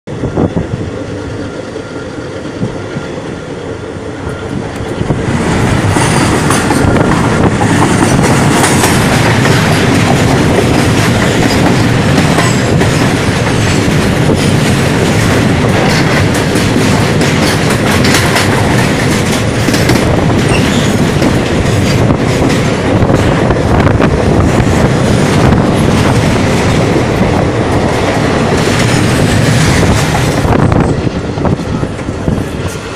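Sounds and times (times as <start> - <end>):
freight train passing close: 0.1 - 32.9
train wheels clicking over rail joints: 4.7 - 32.9.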